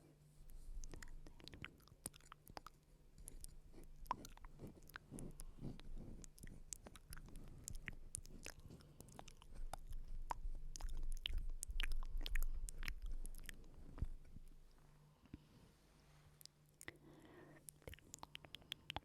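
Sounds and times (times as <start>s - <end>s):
wet mouth clicks and smacks: 0.5s - 14.6s, 17.6s - 19.0s.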